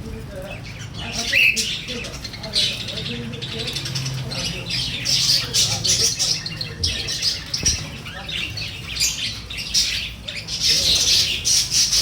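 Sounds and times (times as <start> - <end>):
cage birds chirping and squawking: 0.0 - 12.0.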